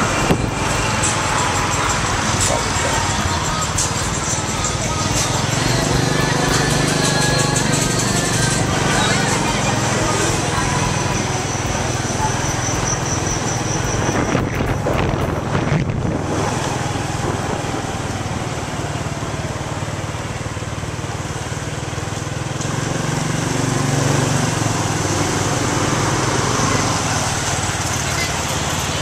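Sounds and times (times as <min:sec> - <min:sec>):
small motorbike engine: 0:00.0 - 0:29.0
wind and road noise: 0:00.0 - 0:29.0.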